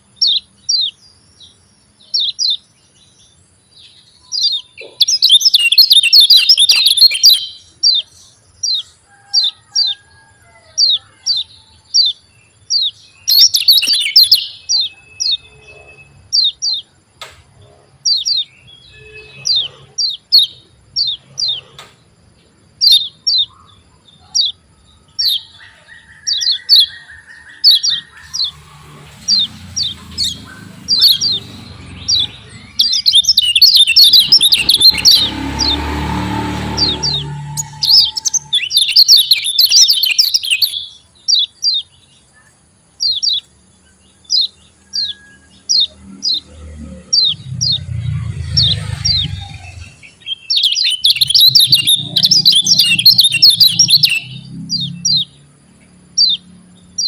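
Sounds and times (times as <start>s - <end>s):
bird chirping: 0.0s - 10.0s, 10.8s - 57.0s.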